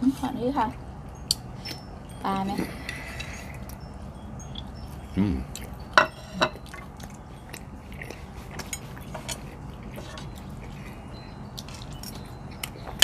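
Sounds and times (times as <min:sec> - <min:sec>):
faint low hum: 0:00.0 - 0:13.0
people chewing: 0:02.4 - 0:13.0.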